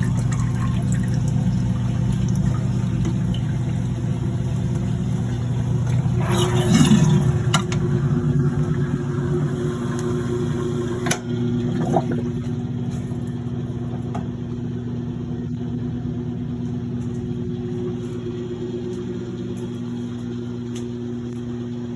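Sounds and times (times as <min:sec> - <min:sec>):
washing machine motor humming: 0:00.0 - 0:21.9.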